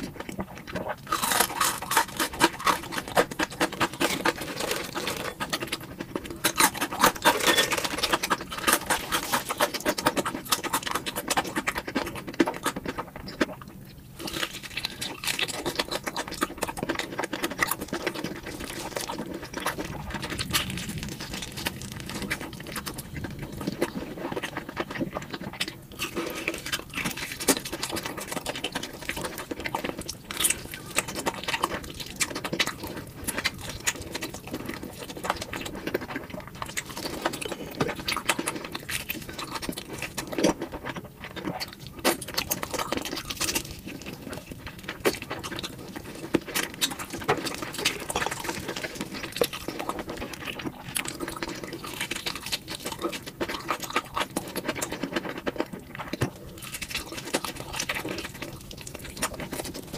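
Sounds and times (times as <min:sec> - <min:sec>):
biting a burger: 0:00.0 - 0:59.9
chewing and crunching fried chicken: 0:00.0 - 0:59.9.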